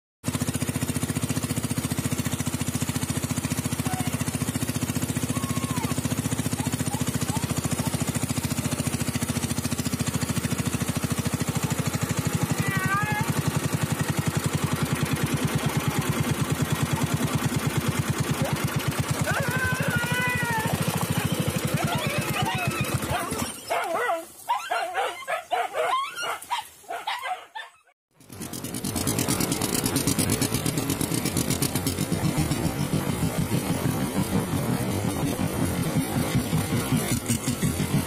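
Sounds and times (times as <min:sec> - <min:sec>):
boat motor running: 0:00.2 - 0:24.1, 0:28.1 - 0:38.0.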